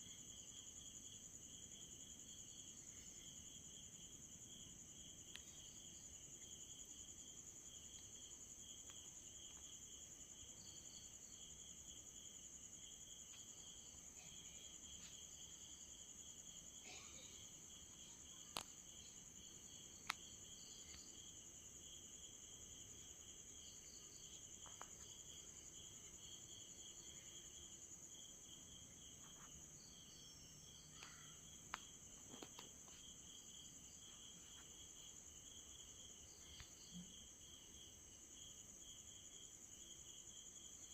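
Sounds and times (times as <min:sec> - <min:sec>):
crickets and night insects trilling: 0:00.0 - 0:40.9.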